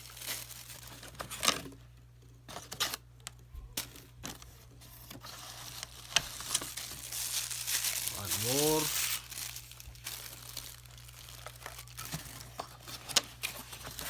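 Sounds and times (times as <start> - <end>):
packaging crinkling: 0.0 - 1.8, 3.8 - 14.0.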